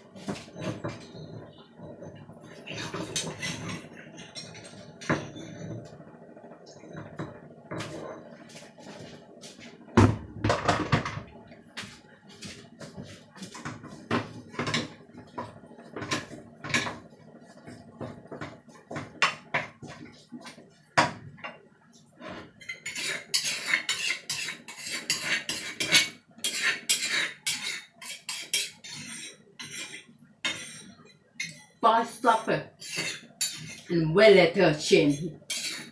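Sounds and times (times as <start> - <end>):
wooden spatula stirring in pan: 0.0 - 10.0, 11.5 - 34.0.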